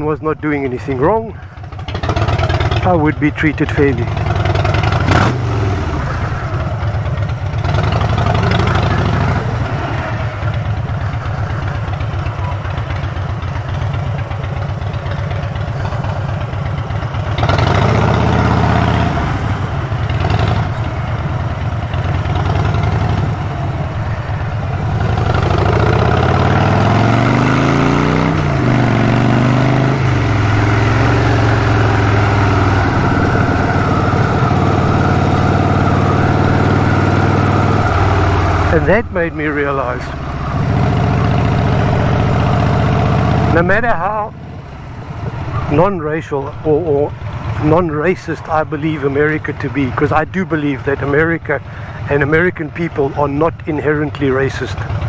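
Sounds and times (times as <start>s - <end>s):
motorcycle engine revving: 0.7s - 55.0s.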